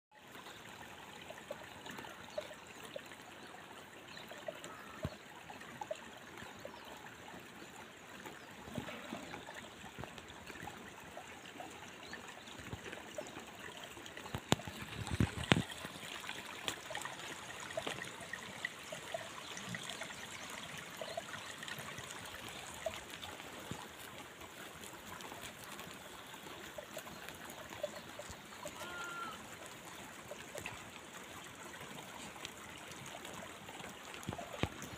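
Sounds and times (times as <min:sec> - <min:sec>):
mountain stream rushing: 0:00.3 - 0:34.9.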